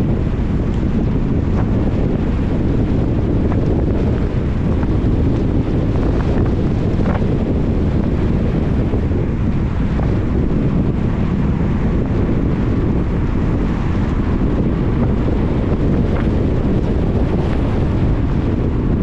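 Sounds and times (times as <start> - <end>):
tyres rumbling on wet road: 0.0 - 19.0
wind noise: 0.0 - 19.0.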